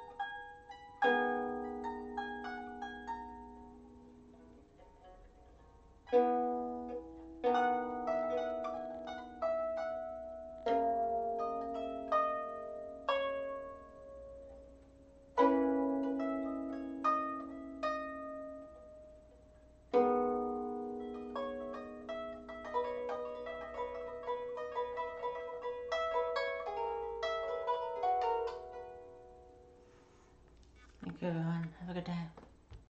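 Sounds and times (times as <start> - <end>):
harp plucked: 0.0 - 29.8.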